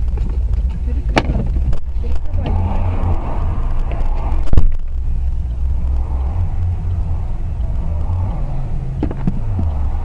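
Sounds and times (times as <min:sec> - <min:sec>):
car driving rumble: 0:00.0 - 0:10.0.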